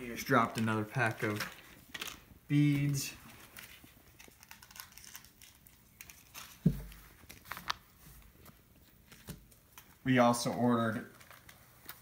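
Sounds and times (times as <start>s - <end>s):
plastic packaging crinkling: 0.2s - 8.0s, 9.0s - 12.0s.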